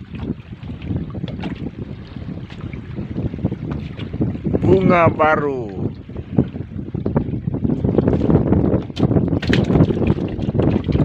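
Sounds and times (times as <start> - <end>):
waves slapping boat hull: 0.0 - 11.0
wind buffeting microphone: 0.0 - 11.0.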